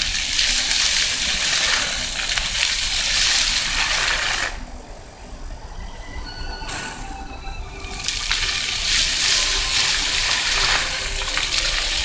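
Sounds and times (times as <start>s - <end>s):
water jets splashing: 0.0s - 5.0s, 6.7s - 12.0s.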